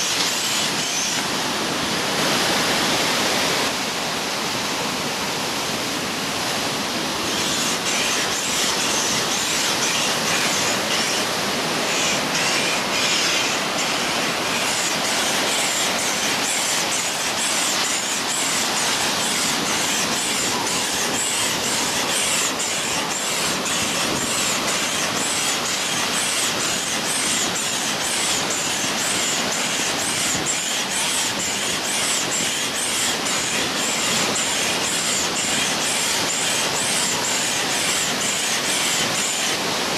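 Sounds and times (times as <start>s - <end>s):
air pump hissing through hose: 0.0s - 3.8s, 5.6s - 39.9s.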